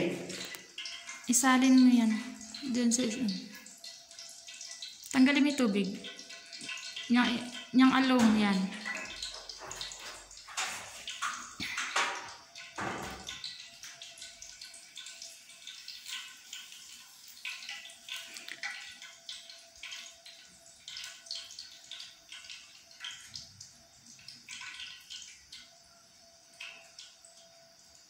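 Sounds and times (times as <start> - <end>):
water splashing and dripping: 0.0 - 28.0.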